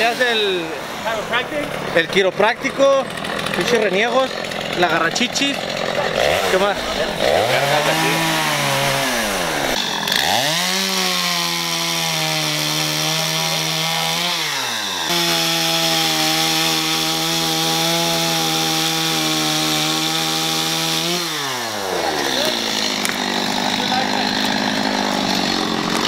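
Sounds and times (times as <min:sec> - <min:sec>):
chainsaw cutting branches: 0:00.0 - 0:26.0.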